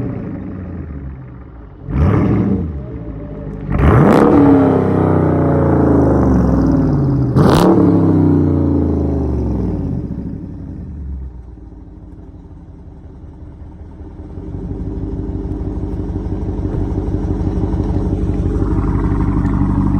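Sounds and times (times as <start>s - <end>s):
car engine revving: 0.0s - 11.0s, 14.2s - 19.9s
exhaust crack: 0.0s - 19.9s.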